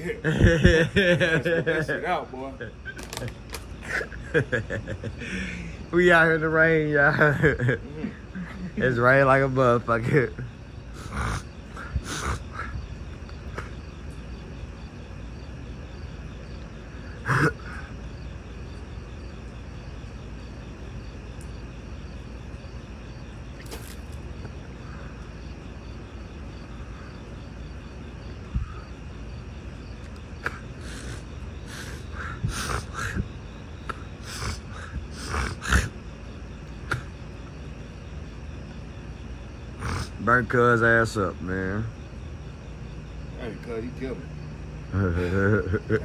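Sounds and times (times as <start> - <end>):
insects chirping: 0.0 - 46.0.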